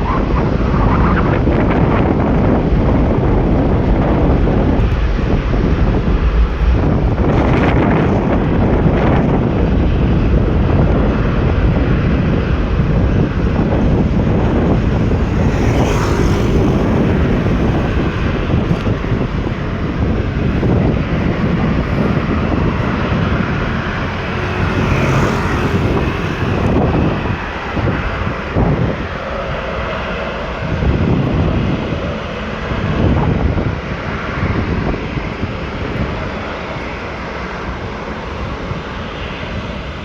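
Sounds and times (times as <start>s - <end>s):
jet engine noise: 0.0s - 40.0s
wind buffeting microphone: 0.0s - 40.0s.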